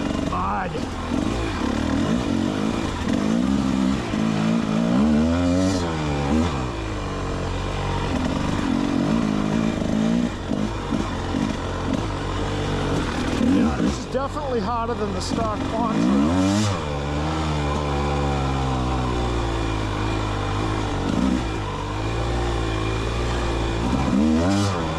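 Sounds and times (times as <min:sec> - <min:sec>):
dirt bike engine revving: 0:00.0 - 0:24.9.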